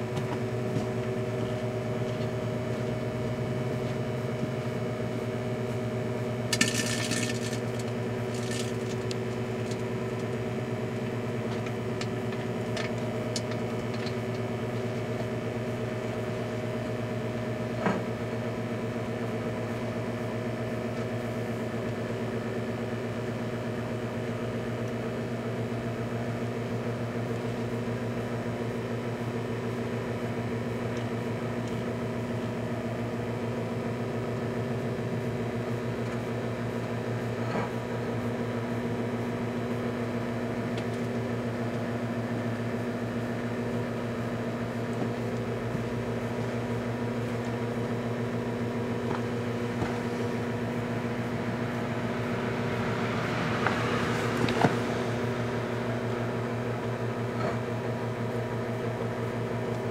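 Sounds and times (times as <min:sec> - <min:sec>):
microwave oven humming: 0:00.0 - 0:59.9.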